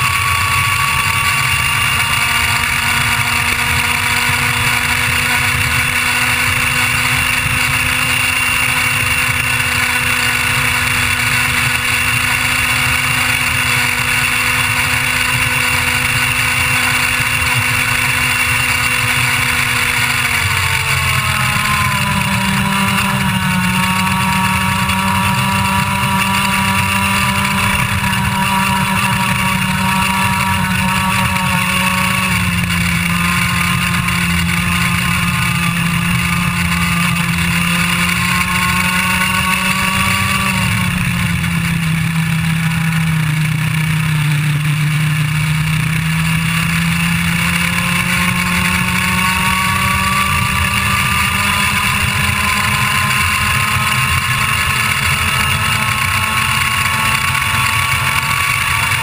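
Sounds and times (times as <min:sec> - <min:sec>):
kart engine screaming: 0:00.0 - 0:59.0.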